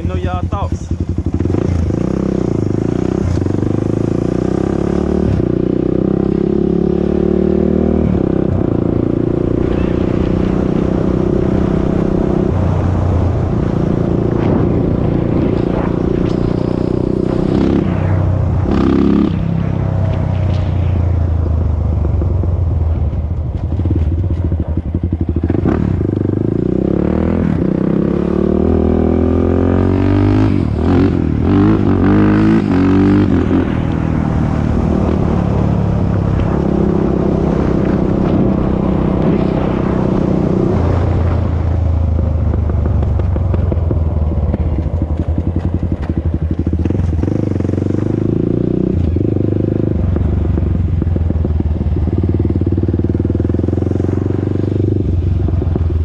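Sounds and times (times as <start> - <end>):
atv engine revving: 0.0 - 20.7, 23.6 - 56.0.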